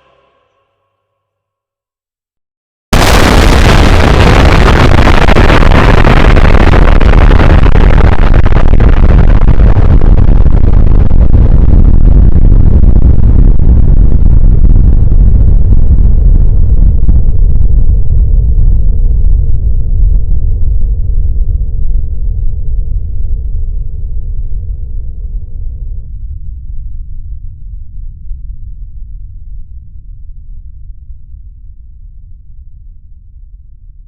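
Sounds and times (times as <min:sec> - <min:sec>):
explosion blast with deep rumble: 0:02.9 - 0:34.0.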